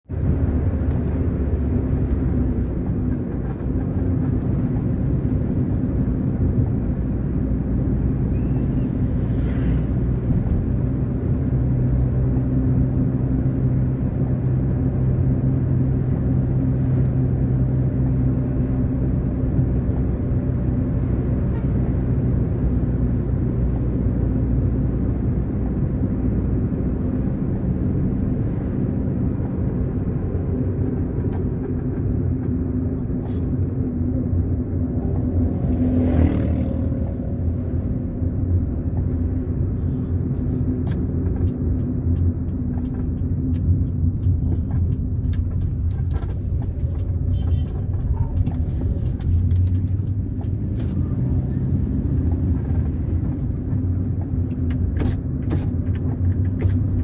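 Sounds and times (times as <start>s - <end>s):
car engine hum and road noise: 0.0s - 57.0s.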